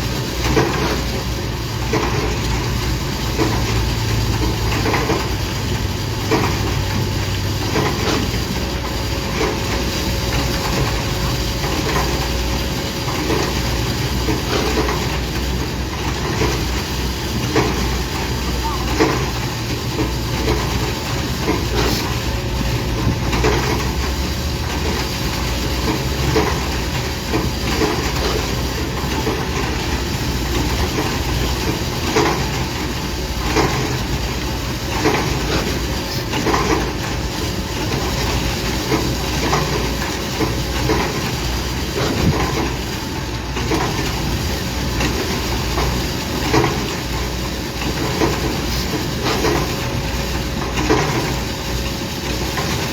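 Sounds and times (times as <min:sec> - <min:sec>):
diesel construction machinery running: 0:00.0 - 0:52.9.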